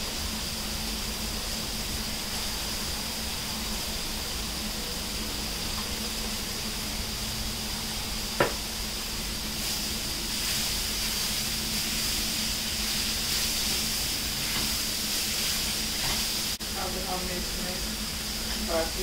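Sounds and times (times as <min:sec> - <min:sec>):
masala sizzling in oil: 0:00.0 - 0:19.0.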